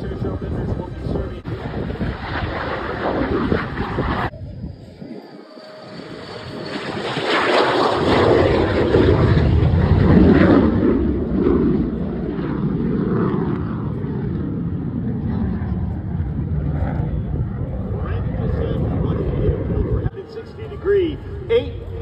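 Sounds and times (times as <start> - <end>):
jet aircraft taking off: 0.0 - 22.0.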